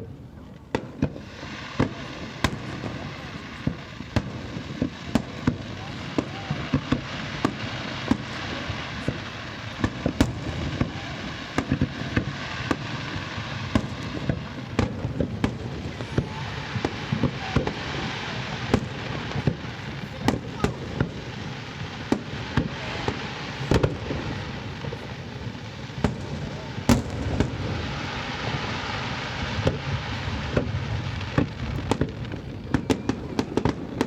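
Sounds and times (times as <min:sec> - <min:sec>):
fireworks bangs: 0:00.0 - 0:34.0
fireworks crackling and hissing: 0:00.0 - 0:34.0.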